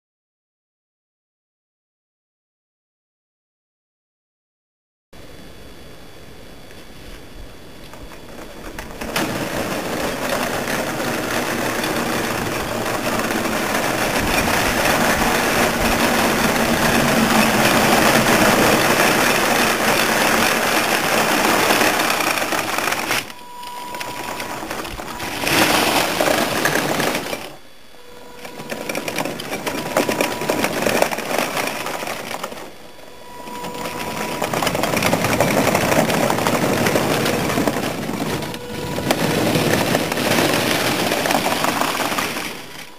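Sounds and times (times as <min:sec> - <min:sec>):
toy tank motors and gearboxes: 0:07.8 - 0:42.9
tracks clattering over paving: 0:07.8 - 0:42.9.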